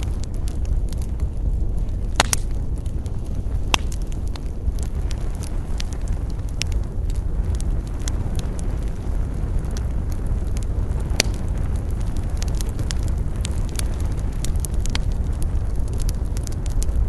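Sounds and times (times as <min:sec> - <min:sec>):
campfire crackles and pops: 0:00.0 - 0:17.0
low rumble of fire: 0:00.0 - 0:17.0.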